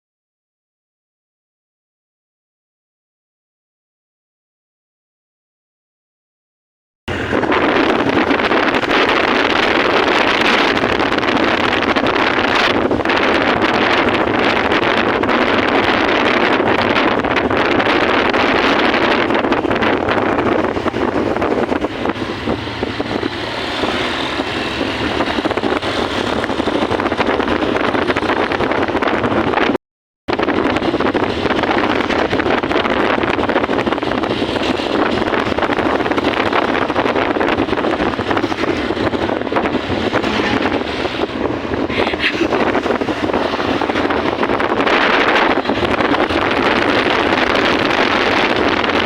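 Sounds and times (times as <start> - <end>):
road noise: 7.1 - 49.0
wind rushing over microphone: 7.1 - 49.0.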